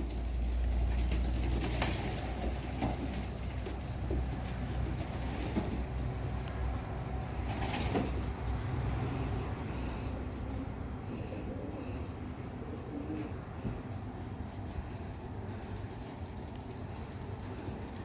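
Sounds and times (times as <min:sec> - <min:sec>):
pigeons cooing softly: 0:00.0 - 0:18.0
steady low hum: 0:00.0 - 0:18.0.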